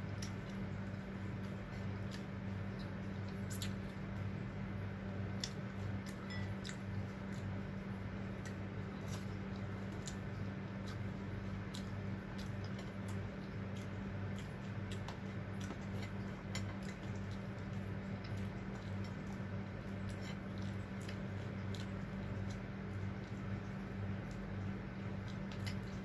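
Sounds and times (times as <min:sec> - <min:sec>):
person chewing food: 0:00.0 - 0:04.3, 0:05.0 - 0:26.0
low electrical hum: 0:00.0 - 0:26.0.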